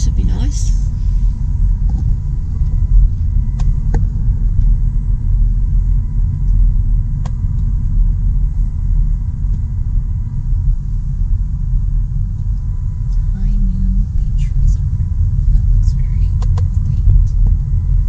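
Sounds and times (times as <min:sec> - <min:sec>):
car road rumble inside cabin: 0:00.0 - 0:18.0.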